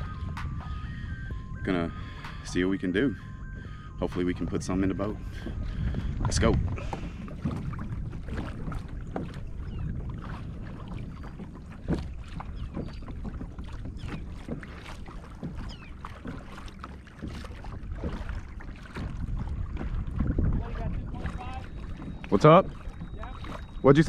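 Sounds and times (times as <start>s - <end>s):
water splashing against kayak hull: 0.0s - 24.0s
wind rumble on microphone: 0.0s - 24.0s.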